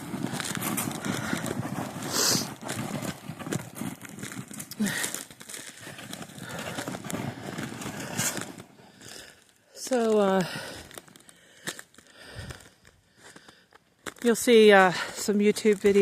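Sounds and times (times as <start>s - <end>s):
footsteps crunching through snow: 0.0s - 16.0s.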